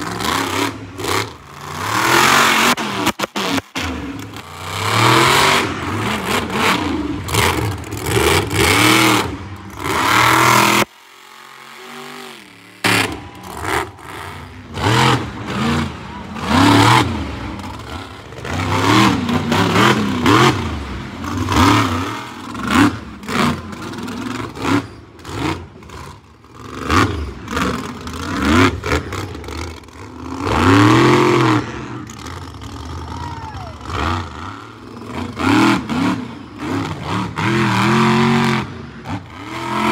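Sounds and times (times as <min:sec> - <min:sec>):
monster truck engines revving: 0:00.0 - 0:39.9.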